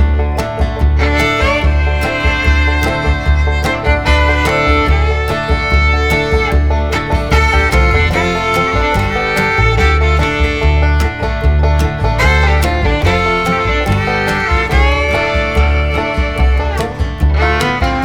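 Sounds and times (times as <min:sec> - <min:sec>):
fiddle-led string-band tune: 0:00.0 - 0:18.0.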